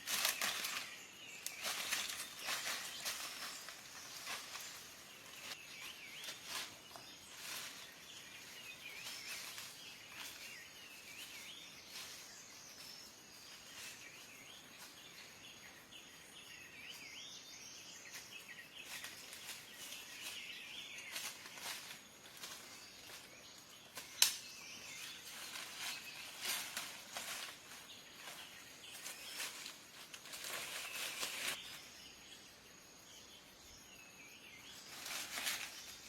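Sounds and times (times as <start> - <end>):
songbird chirping faintly: 0.0 - 36.0.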